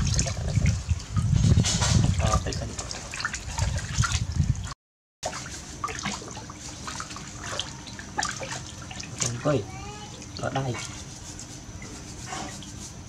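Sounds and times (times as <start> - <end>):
water splashing in a plastic basin: 0.0 - 10.9.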